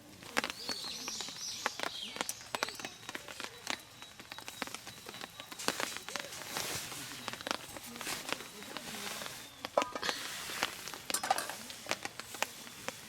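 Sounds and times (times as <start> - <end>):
soft steady hiss: 0.0 - 13.0
irregular clicks and taps: 0.2 - 13.0.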